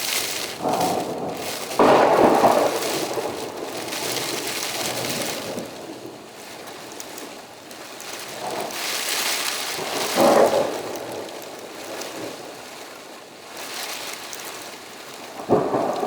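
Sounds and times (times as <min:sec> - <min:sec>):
thunder rumbling: 0:00.0 - 0:12.6, 0:15.3 - 0:16.0
steady rain hiss: 0:00.0 - 0:16.0.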